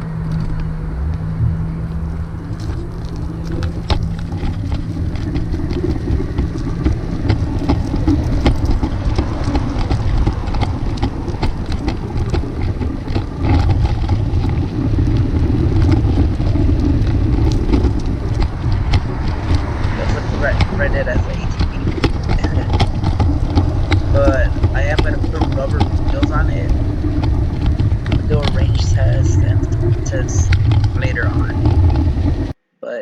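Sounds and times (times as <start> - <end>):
skateboard rolling rumble: 0.0 - 32.6.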